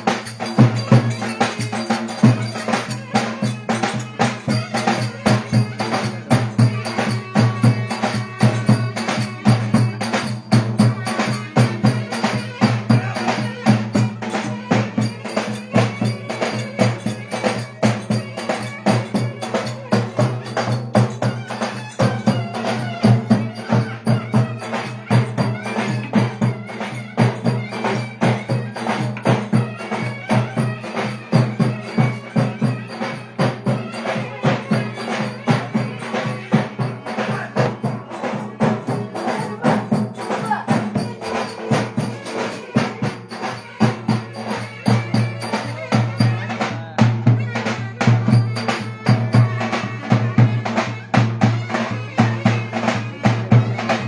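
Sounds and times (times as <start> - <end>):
large drum dance rhythm: 0.0 - 54.0.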